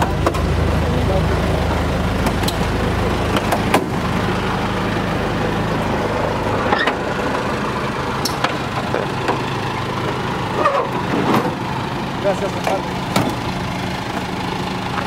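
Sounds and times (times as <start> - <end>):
jeep engine idling: 0.0 - 15.0.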